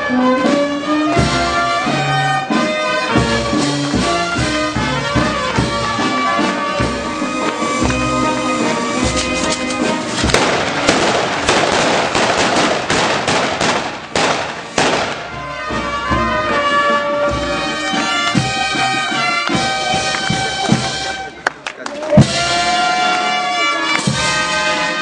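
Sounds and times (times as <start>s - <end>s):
band music with wind instruments: 0.0s - 25.0s
firecrackers crackling: 3.4s - 25.0s.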